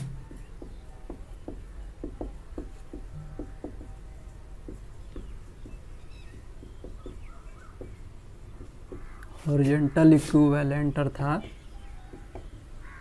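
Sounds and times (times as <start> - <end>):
marker pen writing on whiteboard: 0.0 - 13.0.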